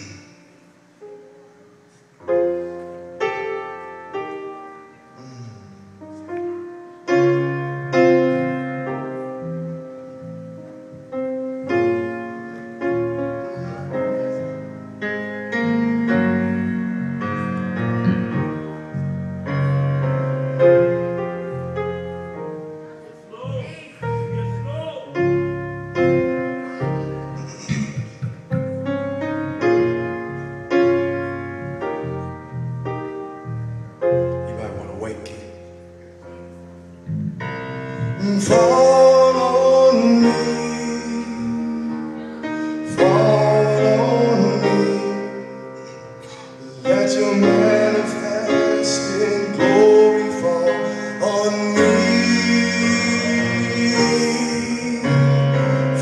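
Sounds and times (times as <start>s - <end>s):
electronic keyboard piano chords: 0.0s - 56.0s.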